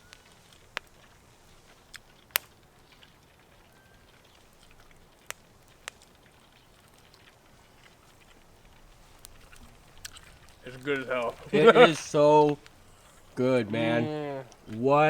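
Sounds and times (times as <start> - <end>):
sharp fire pops: 0.0 - 13.5
campfire crackling: 0.0 - 15.0.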